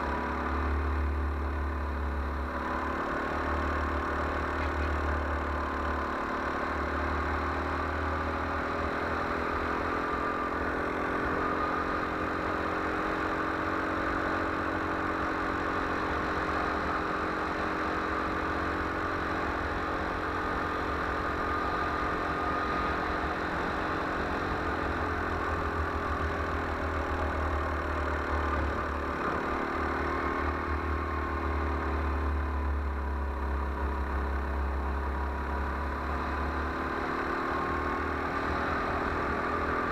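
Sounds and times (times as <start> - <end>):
go-kart engine running at speed: 0.0 - 39.9.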